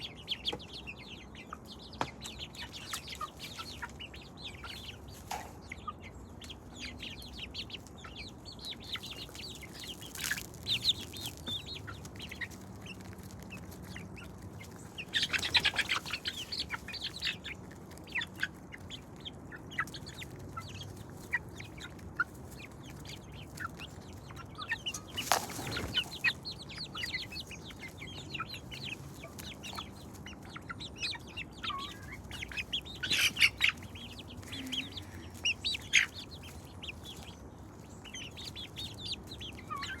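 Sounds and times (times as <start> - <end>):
chickens clucking: 0.0 - 40.0.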